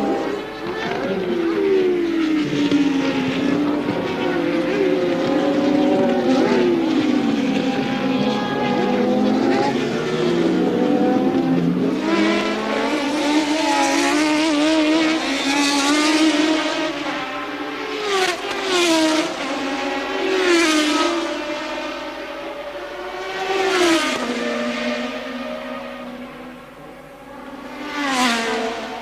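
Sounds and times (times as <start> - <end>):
racing car engines: 0.0 - 29.0
racing car passing close: 0.0 - 29.0.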